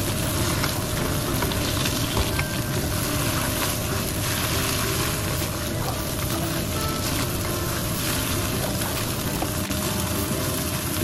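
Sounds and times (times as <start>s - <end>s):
greens sizzling in a wok: 0.0s - 11.0s.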